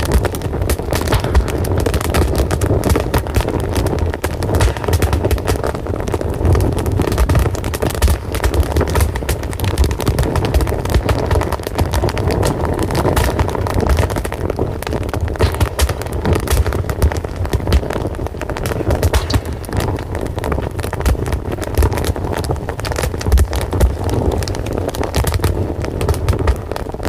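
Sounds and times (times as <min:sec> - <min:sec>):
fire crackling and popping: 0:00.0 - 0:27.0
low rumble of flames: 0:00.0 - 0:27.0.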